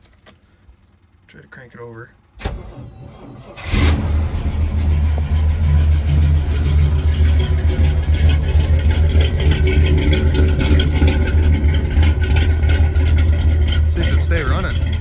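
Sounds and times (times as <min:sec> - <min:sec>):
pickup engine low rumble: 0:00.1 - 0:15.0.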